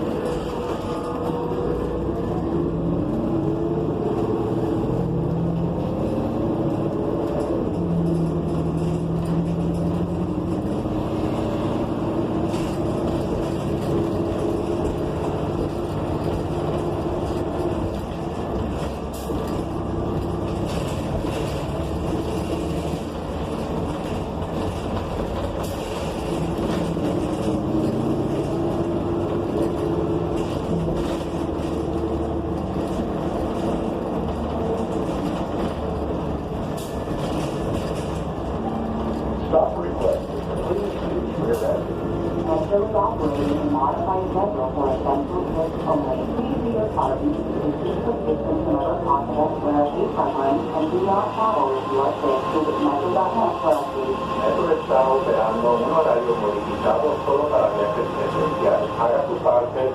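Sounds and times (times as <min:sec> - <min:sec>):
bus engine running: 0:00.0 - 0:59.9
road rumble: 0:00.0 - 0:59.9.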